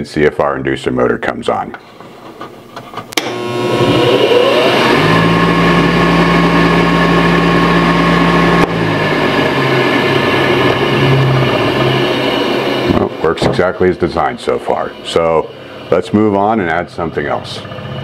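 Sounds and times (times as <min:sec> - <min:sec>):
blower motor whine and hum: 0:01.8 - 0:18.0.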